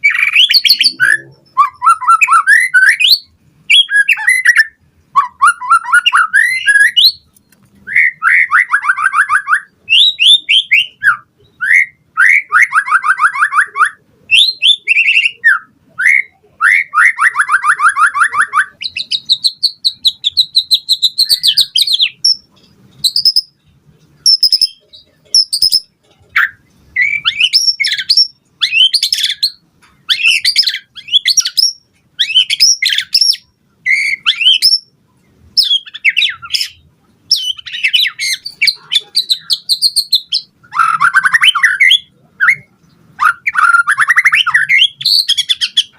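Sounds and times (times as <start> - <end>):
bird singing trills and whistles: 0.0 - 45.9.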